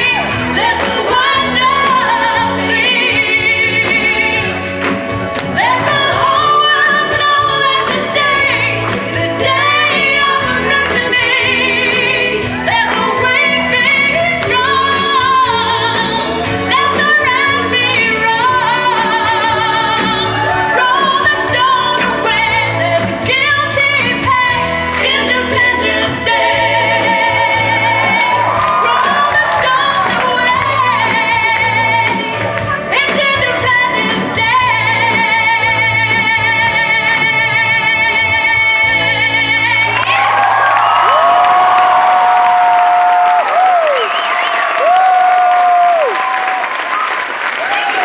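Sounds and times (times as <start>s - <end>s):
woman singing with vibrato: 0.0s - 4.7s, 5.5s - 41.9s
musical accompaniment: 0.0s - 48.0s.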